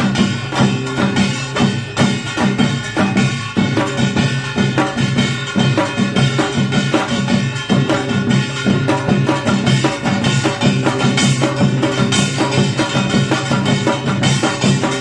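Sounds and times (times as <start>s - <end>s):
drums playing rhythm: 0.0s - 15.0s
ringing gongs: 0.0s - 15.0s.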